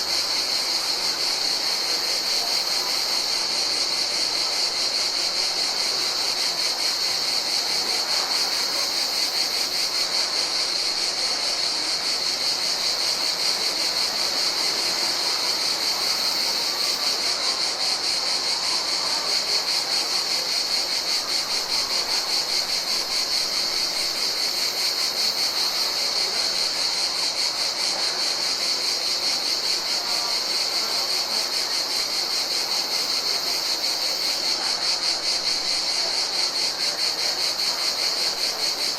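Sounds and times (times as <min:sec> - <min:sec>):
faint background hiss: 0:00.0 - 0:38.9
insects trilling: 0:00.0 - 0:38.9.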